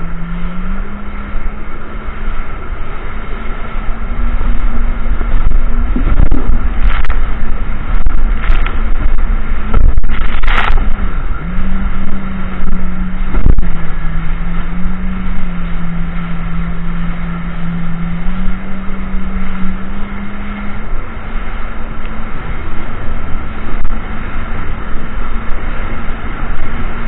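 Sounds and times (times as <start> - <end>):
jet ski engine running: 0.0 - 27.0
water splashing against hull: 0.0 - 27.0.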